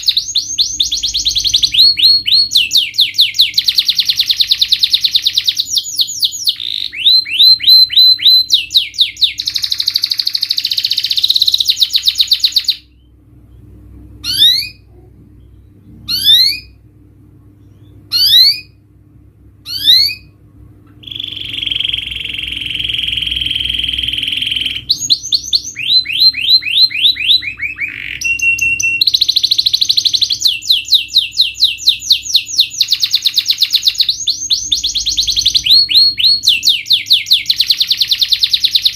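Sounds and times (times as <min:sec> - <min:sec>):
canary singing: 0:00.0 - 0:18.9, 0:19.6 - 0:20.4, 0:21.0 - 0:38.9.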